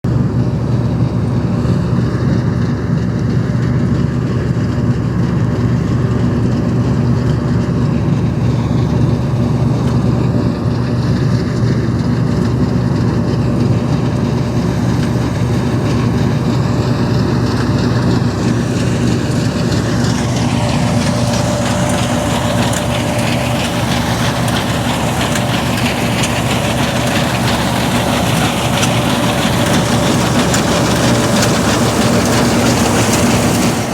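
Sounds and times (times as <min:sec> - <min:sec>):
combine harvester drone: 0:00.0 - 0:33.9.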